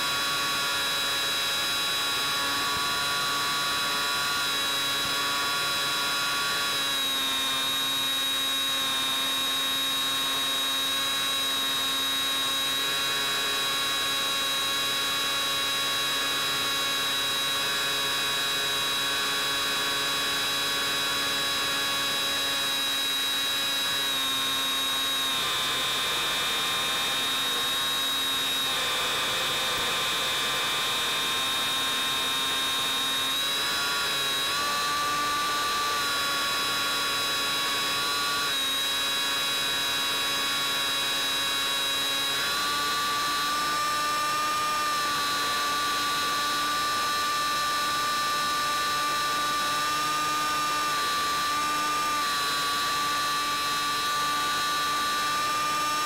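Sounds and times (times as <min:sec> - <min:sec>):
electric motor and propeller whine: 0:00.0 - 0:56.0.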